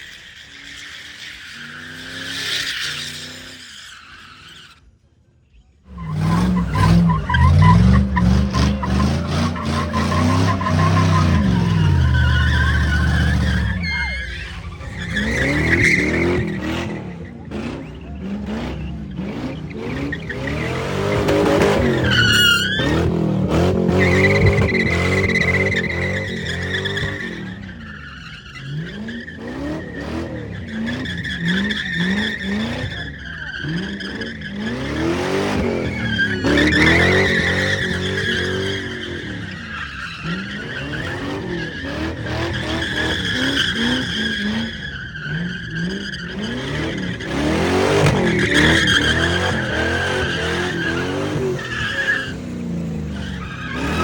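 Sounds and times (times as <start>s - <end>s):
tyres squealing: 5.9s - 52.4s, 53.0s - 54.0s
car engine revving: 5.9s - 54.0s.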